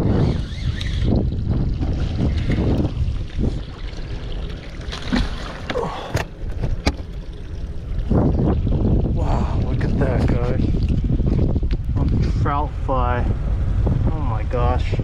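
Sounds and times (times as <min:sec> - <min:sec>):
water sloshing around boat: 0:00.0 - 0:12.6
wind buffeting microphone: 0:00.0 - 0:15.0.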